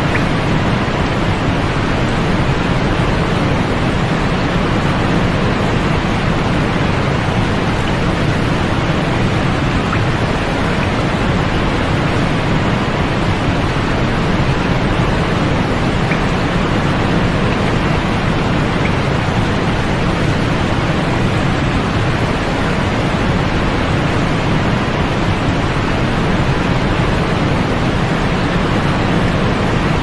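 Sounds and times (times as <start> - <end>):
deep white noise hiss: 0.0 - 30.0.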